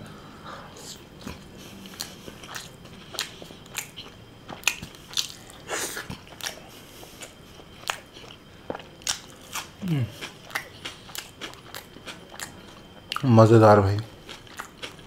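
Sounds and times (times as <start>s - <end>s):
chewing with wet mouth smacks: 0.8s - 13.3s, 14.0s - 15.0s.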